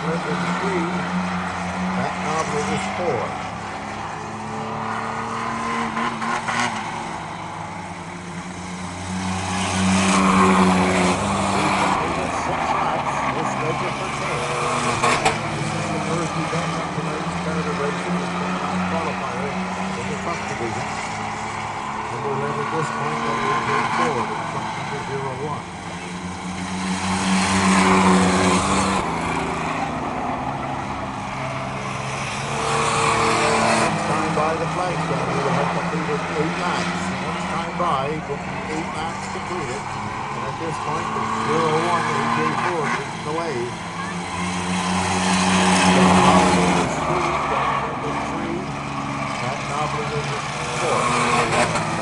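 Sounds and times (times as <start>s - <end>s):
racing truck engines: 0.0s - 52.0s.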